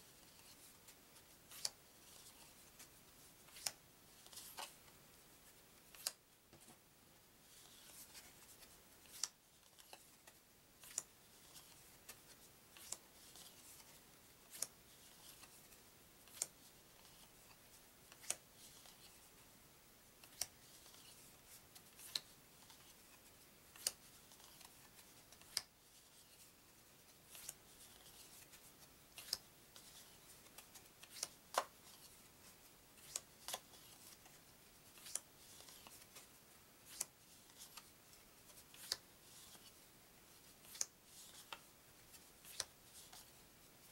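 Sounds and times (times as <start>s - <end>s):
faint sliding rustle of cards: 0.0s - 43.9s.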